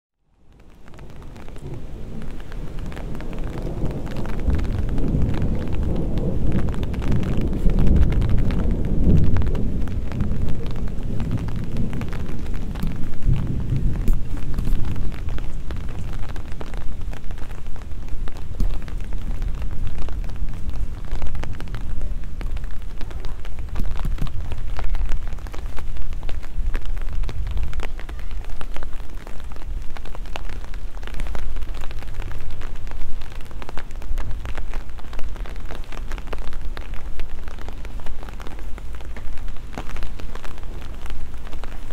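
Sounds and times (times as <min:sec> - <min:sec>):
steady rain: 0:00.2 - 0:41.9
raindrops ticking: 0:00.3 - 0:41.9
low rumble of thunder: 0:00.8 - 0:38.7.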